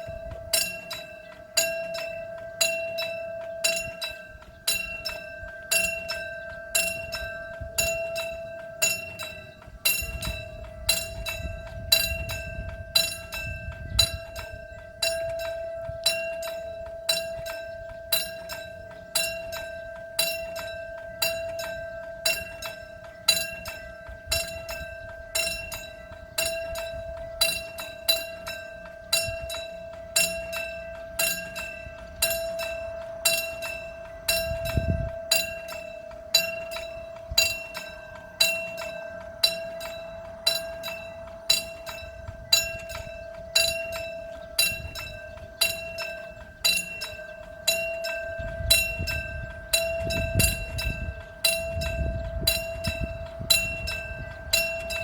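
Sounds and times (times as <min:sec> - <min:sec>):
level crossing bell ringing: 0:00.0 - 0:55.0
steady ringing tone: 0:00.0 - 0:55.0.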